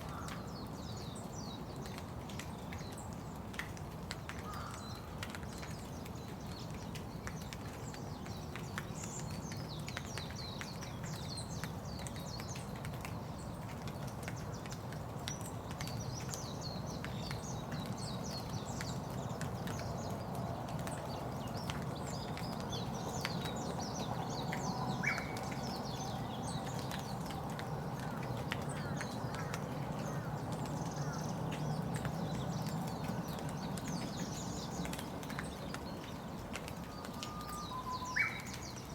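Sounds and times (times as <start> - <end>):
small birds chirping: 0.0 - 38.9
steady rain with ticking drops: 0.0 - 38.9.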